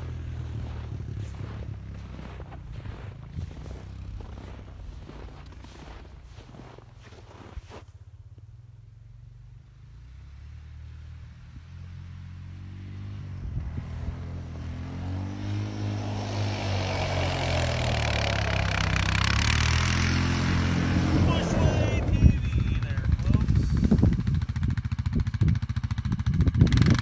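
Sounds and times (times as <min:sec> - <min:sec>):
atv engine revving: 0:00.0 - 0:06.4, 0:09.0 - 0:27.0.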